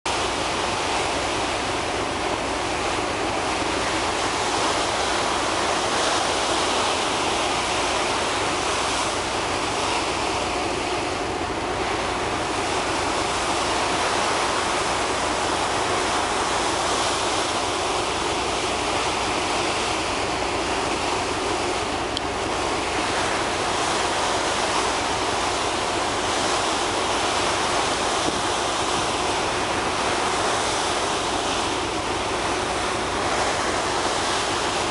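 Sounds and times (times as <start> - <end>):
sea water rushing and churning: 0.0 - 34.9.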